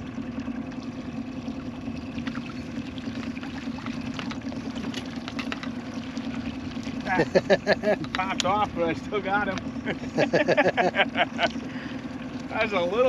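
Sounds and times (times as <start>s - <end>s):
water splashes and drips: 0.0s - 9.7s, 11.2s - 13.0s
boat motor running: 0.0s - 13.0s.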